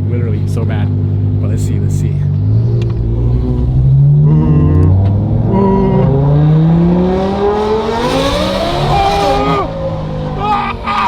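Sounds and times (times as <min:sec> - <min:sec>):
sports car engine accelerating: 0:00.0 - 0:11.0.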